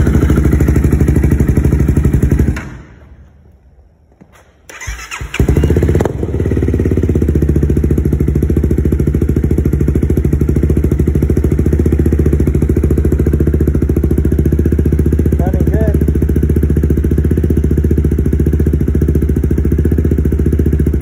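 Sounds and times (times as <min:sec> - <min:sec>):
motorcycle engine starting and idling: 0:00.0 - 0:21.0.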